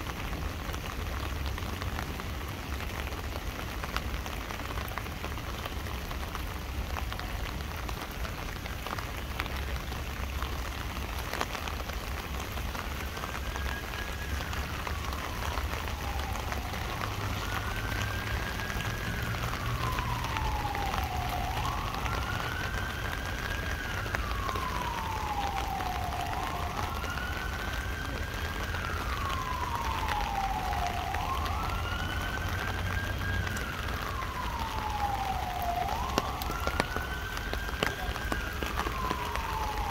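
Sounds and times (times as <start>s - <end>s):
rain pattering on an umbrella: 0.0s - 39.9s
emergency vehicle siren wailing: 0.1s - 39.9s.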